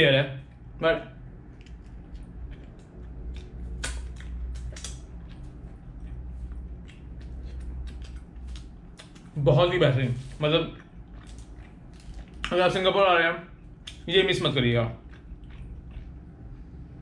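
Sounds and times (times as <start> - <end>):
close-up chewing with soft crunches: 0.4 - 9.4, 10.1 - 12.9, 13.6 - 17.0.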